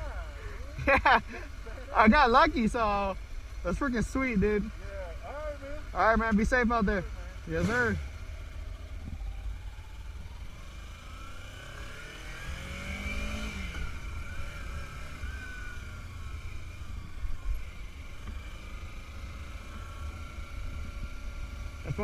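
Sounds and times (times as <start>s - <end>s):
low wind rumble: 0.0s - 22.0s
motorcycle engine revving: 0.0s - 22.0s.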